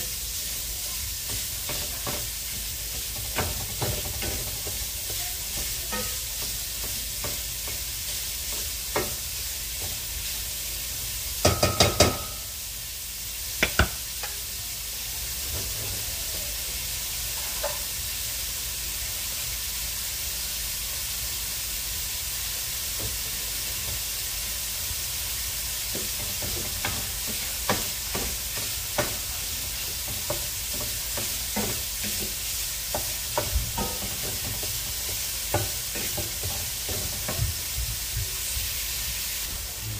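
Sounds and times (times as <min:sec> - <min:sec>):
sausage sizzling in a skillet: 0:00.0 - 0:39.9.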